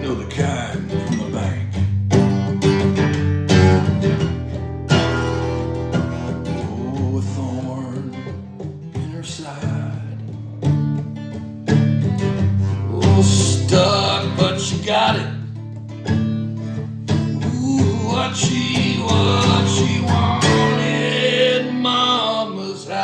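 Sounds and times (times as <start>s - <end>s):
acoustic guitar chords: 0.0s - 23.0s.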